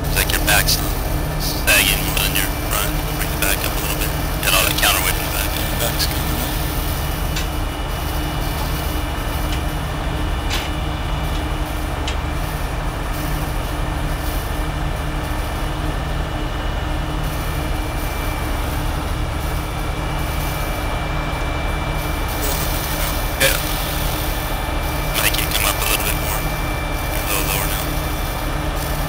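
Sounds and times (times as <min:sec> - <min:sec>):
diesel engines droning: 0:00.0 - 0:29.0.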